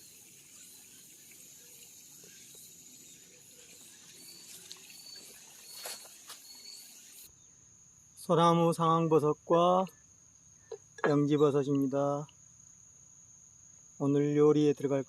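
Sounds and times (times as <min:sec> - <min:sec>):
insects singing: 0:00.0 - 0:15.0.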